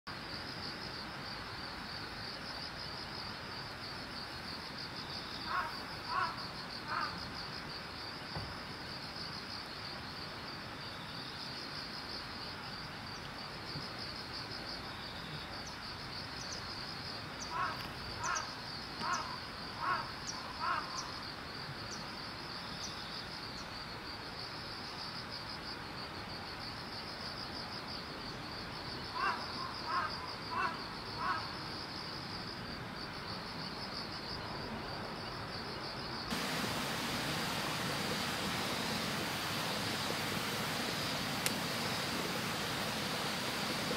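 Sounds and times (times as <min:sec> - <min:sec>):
insects chirring: 0:00.1 - 0:43.9.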